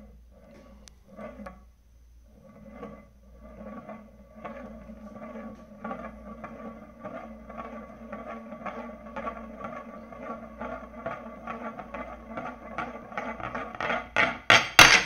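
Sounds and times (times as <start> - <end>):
spinning top rattling on wood: 0.0 - 1.7, 2.3 - 15.0.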